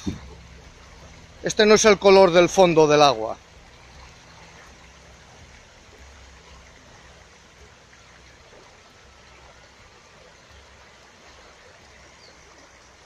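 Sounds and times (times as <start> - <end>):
river flowing past rocks: 0.0 - 13.0.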